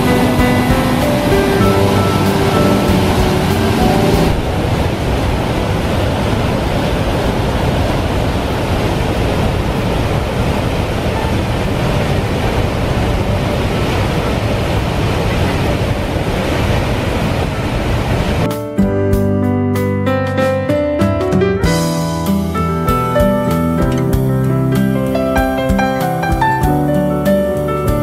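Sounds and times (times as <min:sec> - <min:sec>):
waterfall rushing: 0:00.0 - 0:18.5, 0:21.8 - 0:28.0.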